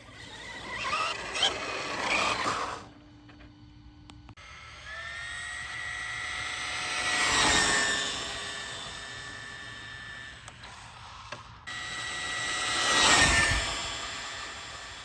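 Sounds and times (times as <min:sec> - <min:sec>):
rc car motor whine: 0:00.0 - 0:15.0.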